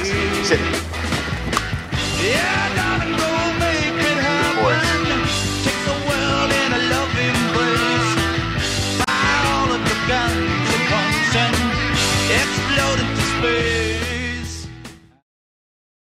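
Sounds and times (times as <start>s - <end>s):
rock music with drum beat: 0.0s - 15.2s
person singing: 2.1s - 15.2s.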